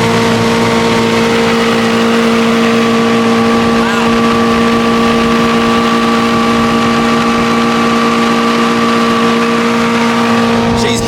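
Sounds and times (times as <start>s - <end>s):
outboard motor running: 0.0s - 11.0s
water noise: 0.0s - 11.0s
wind noise: 0.0s - 11.0s.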